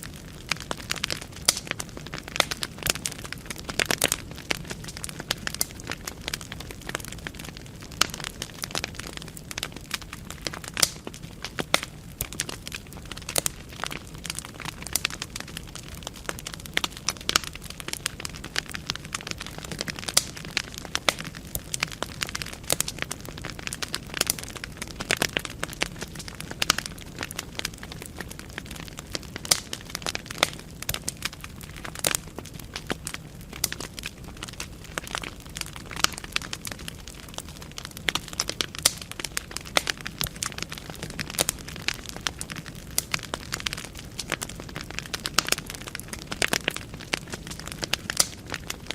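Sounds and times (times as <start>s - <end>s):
logs crackling and popping: 0.0s - 48.9s
low rumble of flames: 0.0s - 48.9s.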